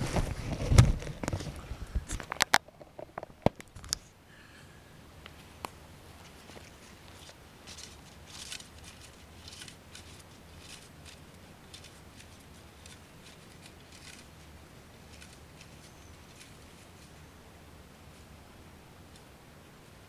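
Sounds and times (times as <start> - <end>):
soft rustling and scraping: 0.0 - 4.2, 5.3 - 18.4
faint steady hum: 0.0 - 20.0.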